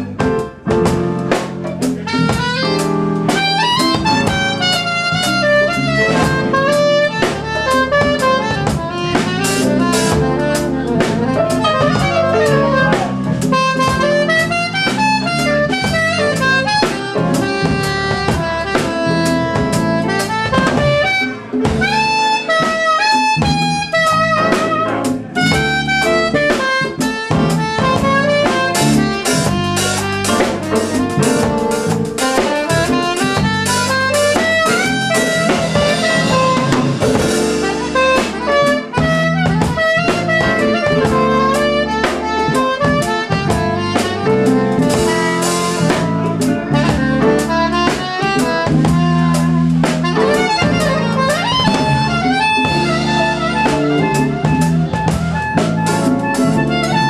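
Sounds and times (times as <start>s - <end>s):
drum kit cymbals: 0.0s - 57.0s
soprano saxophone solo: 0.0s - 57.0s.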